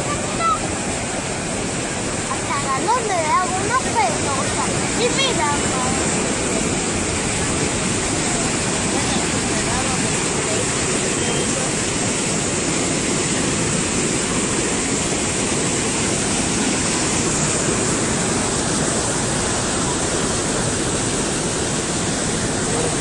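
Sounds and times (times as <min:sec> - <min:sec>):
rushing river water: 0:00.0 - 0:23.0.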